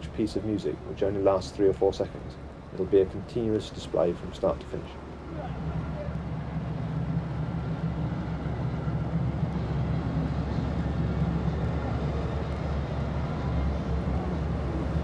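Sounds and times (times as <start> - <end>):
large engine droning: 1.9 - 15.0.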